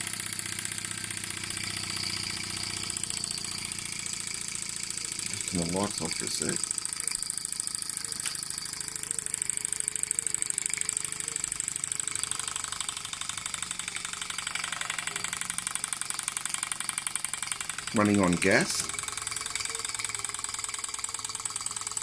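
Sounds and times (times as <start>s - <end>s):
steam engine exhaust chuffs: 0.0s - 22.0s.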